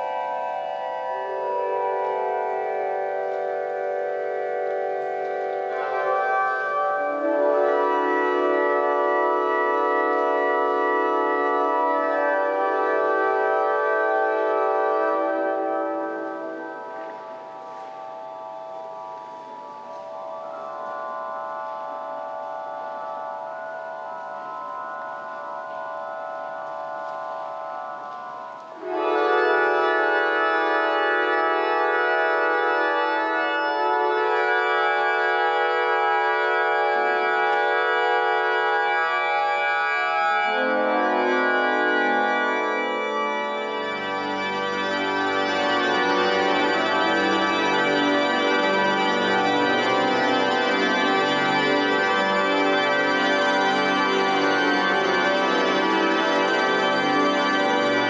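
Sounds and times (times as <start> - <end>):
organ playing sustained chords: 0.0 - 58.0.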